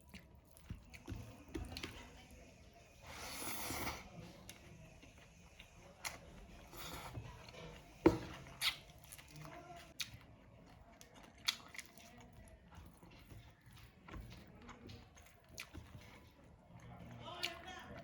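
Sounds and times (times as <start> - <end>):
quiet chewing: 0.0 - 18.0.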